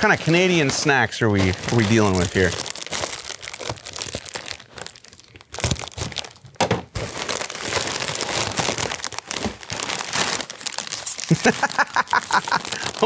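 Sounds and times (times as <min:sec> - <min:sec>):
chip bag crinkling: 0:00.0 - 0:13.0
plastic wrapping crinkling: 0:00.0 - 0:13.0.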